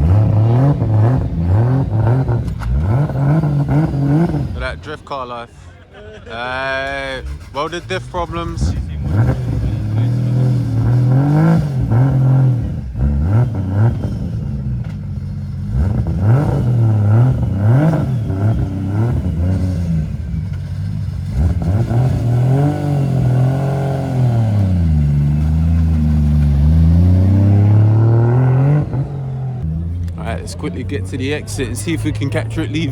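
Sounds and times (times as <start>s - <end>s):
car engine revving: 0.0s - 5.4s, 6.8s - 32.9s.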